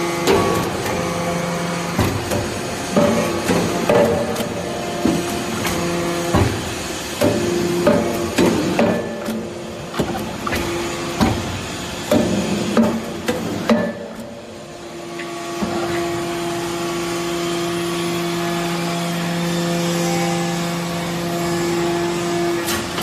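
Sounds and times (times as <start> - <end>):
hydraulic press hum: 0.0 - 23.0.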